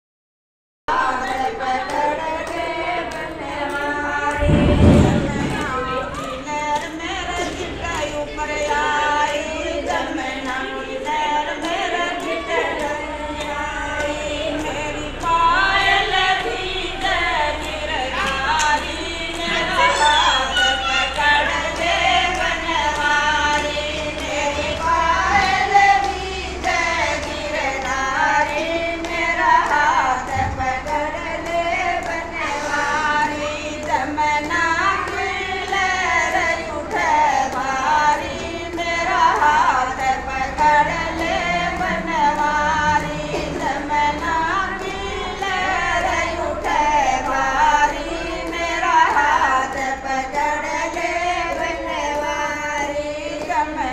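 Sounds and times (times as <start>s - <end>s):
percussion beat: 0.9s - 53.9s
women singing devotional song: 0.9s - 53.9s.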